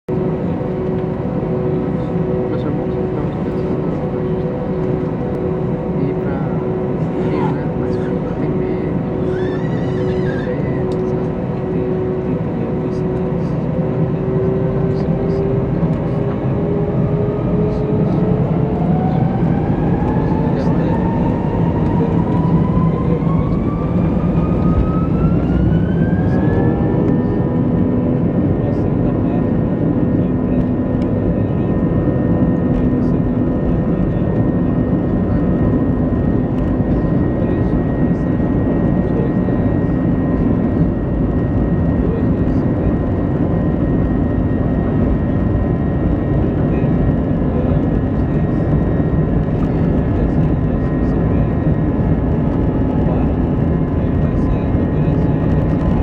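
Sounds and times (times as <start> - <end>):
jet engine whine rising: 0.1 - 56.0
low engine rumble: 0.1 - 56.0.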